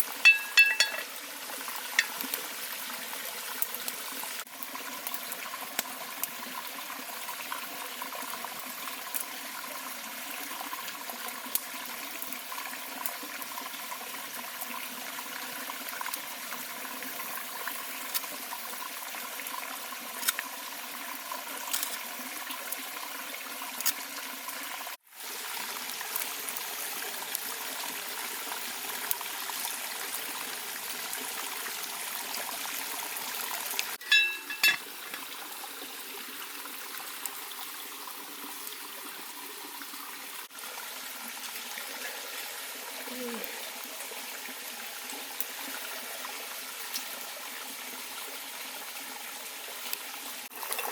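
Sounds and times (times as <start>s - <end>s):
stream trickling: 0.0s - 50.9s.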